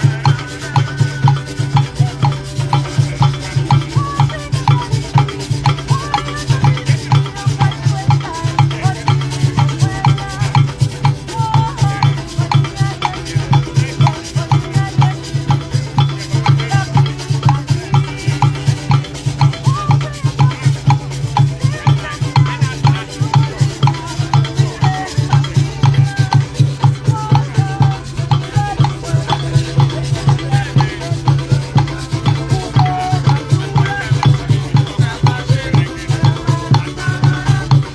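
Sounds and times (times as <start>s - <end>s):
drums beating fast rhythm: 0.0s - 37.9s
maracas shaking: 0.0s - 37.9s.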